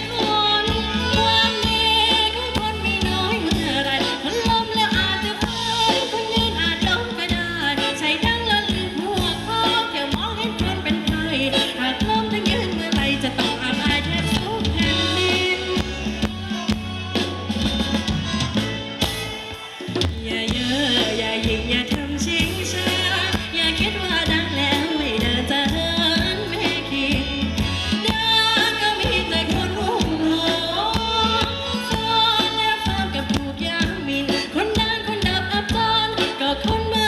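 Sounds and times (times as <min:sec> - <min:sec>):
live band playing dance music: 0:00.0 - 0:37.0
steady drum beat: 0:00.0 - 0:37.0.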